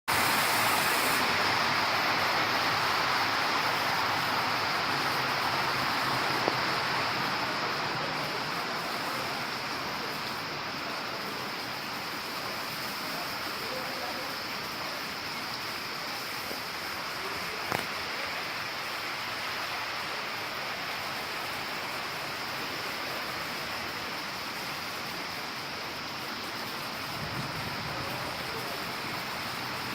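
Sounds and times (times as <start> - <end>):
heavy rain falling: 0.1 - 29.9.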